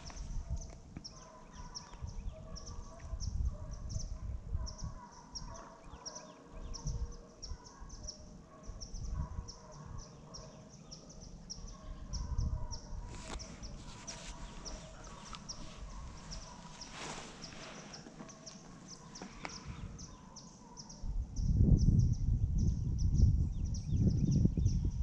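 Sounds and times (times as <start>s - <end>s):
wind rumbling on microphone: 0.0s - 10.2s, 11.4s - 20.3s, 20.9s - 25.0s
distant dogs barking and baying: 0.0s - 21.5s
small birds chirping: 0.0s - 25.0s.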